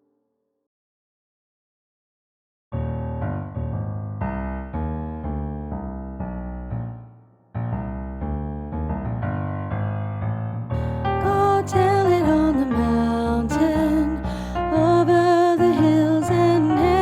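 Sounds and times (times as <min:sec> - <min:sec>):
piano playing slow chords: 0:02.8 - 0:17.0.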